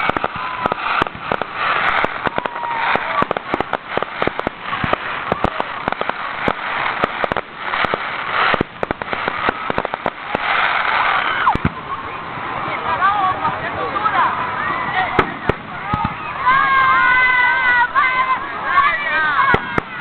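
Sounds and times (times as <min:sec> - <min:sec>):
fireworks bangs and pops: 0:00.0 - 0:12.2, 0:12.8 - 0:20.0.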